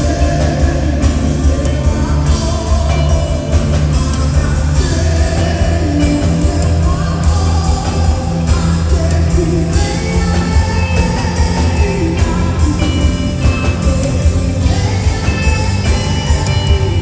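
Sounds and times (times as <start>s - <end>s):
live band music: 0.0s - 17.0s
person singing: 0.0s - 17.0s.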